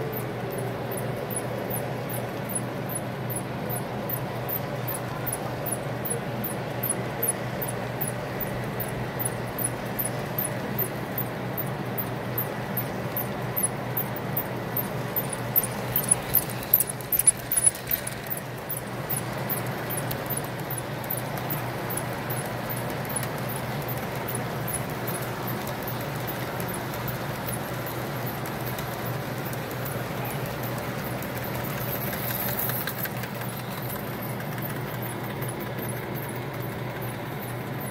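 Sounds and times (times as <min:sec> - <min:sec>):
model train wheels clicking: 0:00.0 - 0:37.9.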